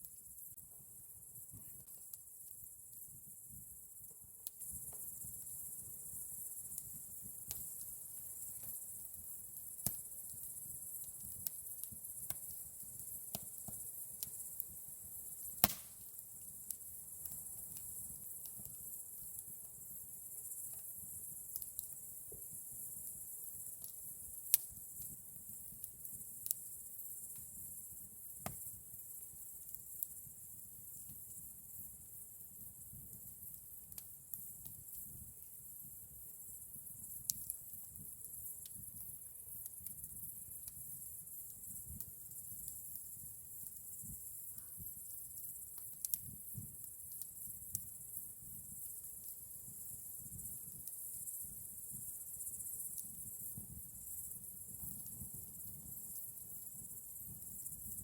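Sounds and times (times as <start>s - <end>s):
campfire crackling: 0.4s - 58.0s.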